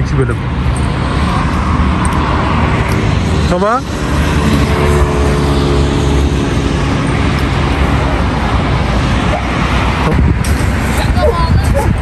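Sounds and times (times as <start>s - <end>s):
passing vehicle engine hum: 0.0s - 12.0s
road traffic rumble: 0.0s - 12.0s.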